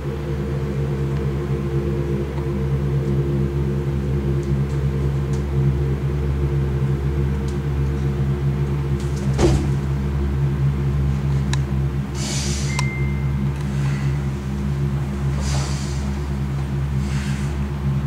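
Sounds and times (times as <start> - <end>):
low drone of held tones: 0.0 - 18.0.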